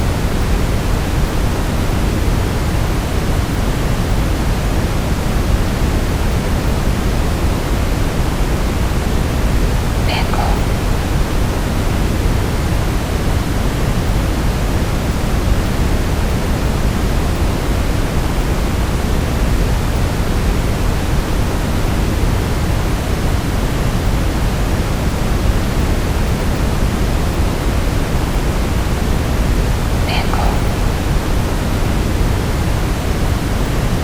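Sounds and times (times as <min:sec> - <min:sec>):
brown noise hiss: 0:00.0 - 0:34.0.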